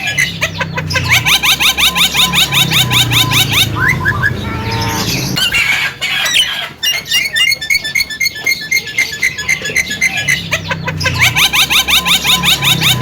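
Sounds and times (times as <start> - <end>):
myna bird singing: 0.0 - 13.0.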